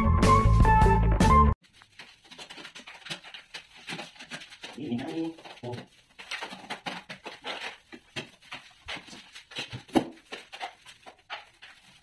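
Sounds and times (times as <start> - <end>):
trowel scraping mortar on concrete: 1.8 - 12.0.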